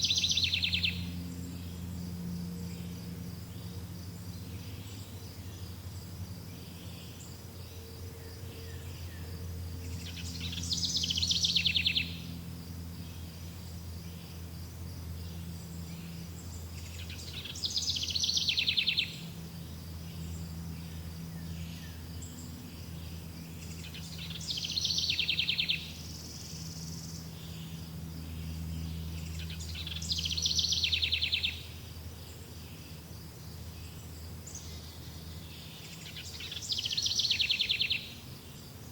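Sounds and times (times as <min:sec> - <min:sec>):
songbird trilling: 0:00.0 - 0:05.8, 0:06.5 - 0:14.4, 0:15.2 - 0:33.0, 0:33.6 - 0:38.2
insect trill: 0:00.0 - 0:38.9
low background hum: 0:00.0 - 0:38.9.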